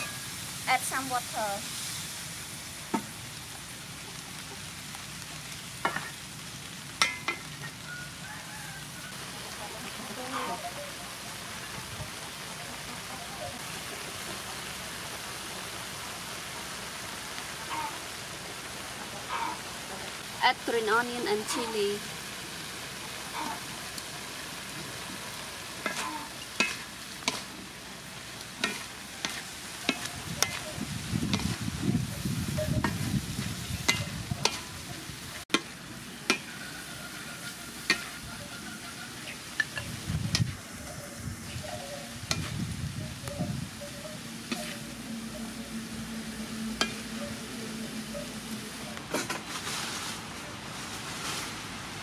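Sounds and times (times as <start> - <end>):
stir-fry sizzling in a wok: 0.0 - 52.0.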